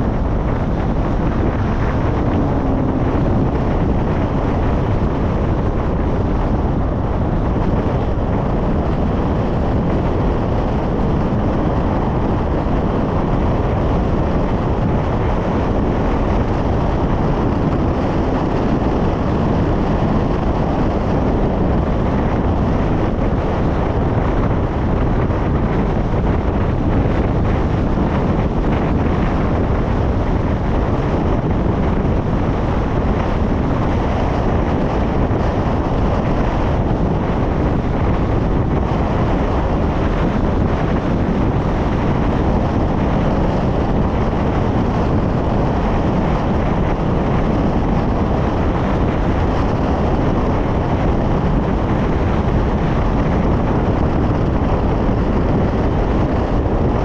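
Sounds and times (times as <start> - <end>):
car road noise: 0.0 - 57.0
wind buffeting microphone: 0.0 - 57.0.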